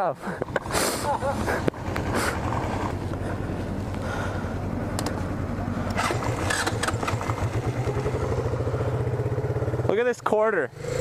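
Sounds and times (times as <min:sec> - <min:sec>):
small motorbike engine idling: 0:00.3 - 0:11.0.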